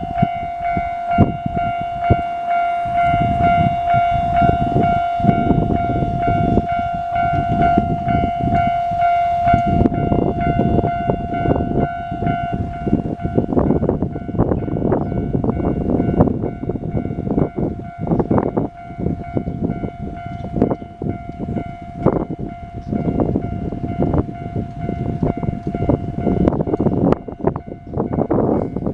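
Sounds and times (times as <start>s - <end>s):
level-crossing alarm ringing: 0.0s - 28.9s
train wheels rumbling and clattering: 0.0s - 28.9s.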